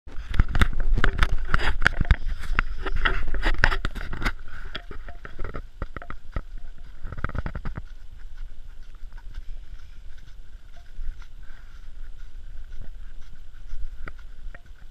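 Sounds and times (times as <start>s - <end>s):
horse hooves clopping on dirt: 0.1s - 14.9s.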